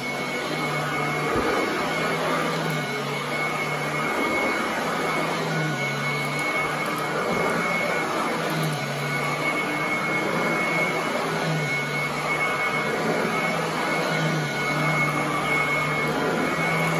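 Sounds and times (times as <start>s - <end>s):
vacuum cleaner running on carpet: 0.0s - 16.9s.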